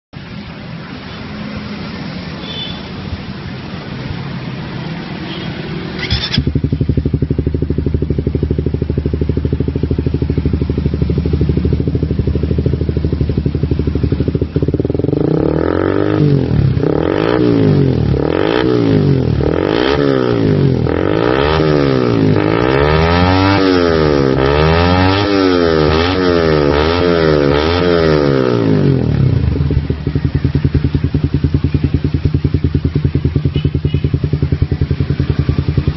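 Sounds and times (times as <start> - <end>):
motorcycle engine idling and revving: 0.2 - 35.9.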